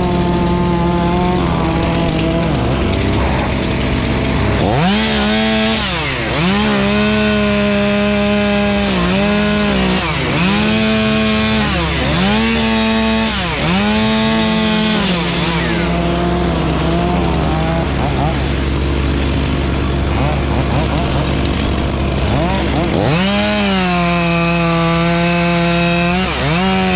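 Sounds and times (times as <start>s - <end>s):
chainsaw revving: 0.0s - 26.9s.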